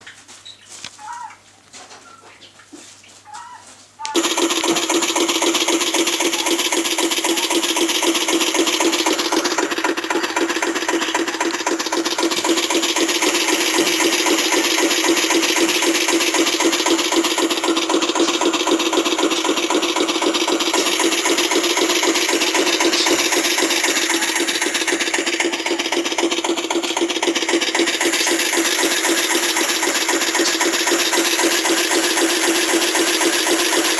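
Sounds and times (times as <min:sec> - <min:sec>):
diesel engine through small speaker: 0:04.0 - 0:33.9.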